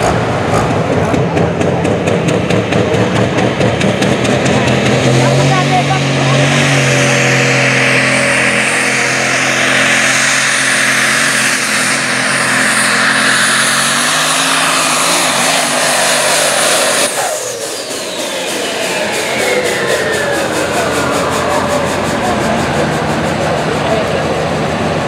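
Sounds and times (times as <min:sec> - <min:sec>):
diesel truck engine at full throttle: 0:00.0 - 0:25.0
whine falling in pitch: 0:02.3 - 0:25.0.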